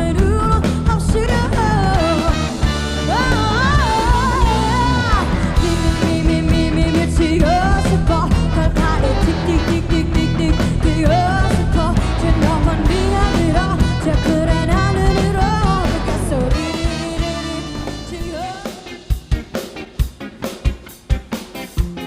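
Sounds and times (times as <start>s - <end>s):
person singing: 0.0s - 19.2s
bass guitar: 0.0s - 22.0s
live band playing: 0.0s - 22.0s.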